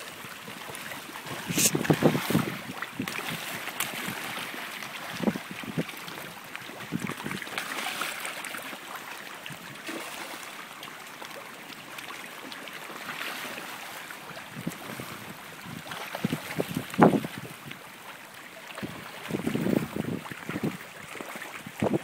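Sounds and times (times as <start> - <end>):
small water splashes: 0.0 - 22.0
water lapping at pond edge: 0.0 - 22.0.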